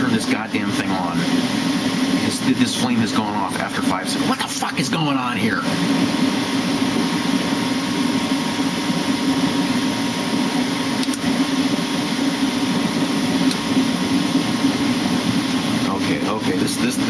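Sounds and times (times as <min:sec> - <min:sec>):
gas furnace burner and fan: 0:00.0 - 0:17.0
low hum: 0:00.0 - 0:17.0.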